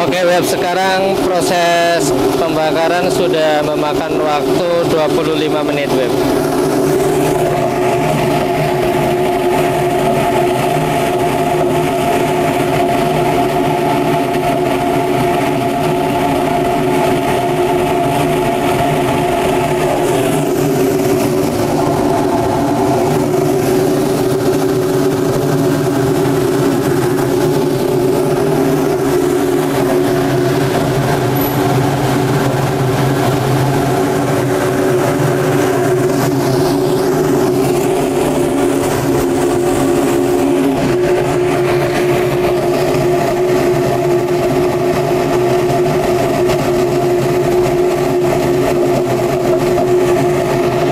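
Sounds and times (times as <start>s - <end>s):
droning hum: 0.0s - 50.9s
furnace burner roaring: 0.0s - 50.9s.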